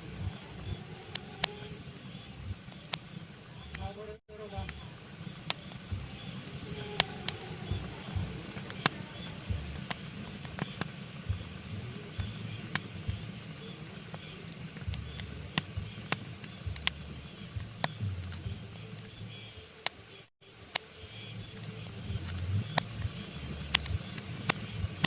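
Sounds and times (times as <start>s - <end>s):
low rumble of flames: 0.0s - 19.4s, 21.3s - 25.0s
logs crackling and popping: 0.0s - 25.0s.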